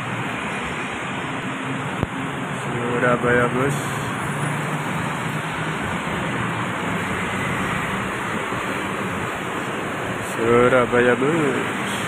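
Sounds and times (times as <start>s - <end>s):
bus driving past: 0.0s - 12.0s
road traffic noise: 0.0s - 12.0s.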